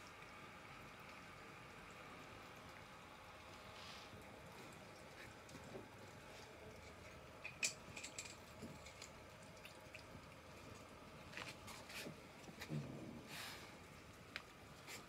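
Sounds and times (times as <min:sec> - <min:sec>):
cats eating wet squishy sounds: 0:00.0 - 0:15.0.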